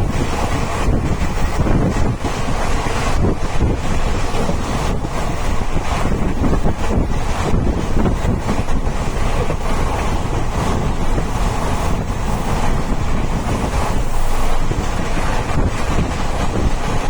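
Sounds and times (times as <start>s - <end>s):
train rumbling: 0.0s - 17.0s
wind buffeting microphone: 0.0s - 17.0s.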